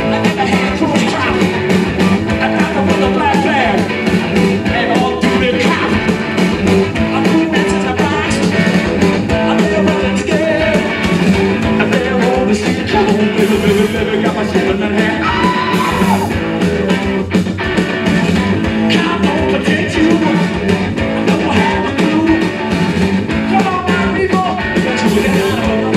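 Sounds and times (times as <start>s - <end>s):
person singing: 0.0s - 16.4s, 18.7s - 22.6s, 23.5s - 25.9s
live rock band playing: 0.0s - 25.9s.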